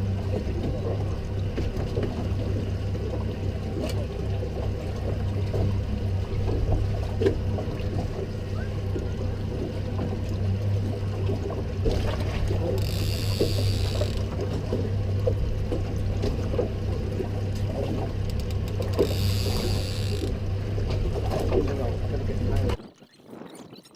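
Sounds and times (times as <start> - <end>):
boat engine humming: 0.0 - 22.8.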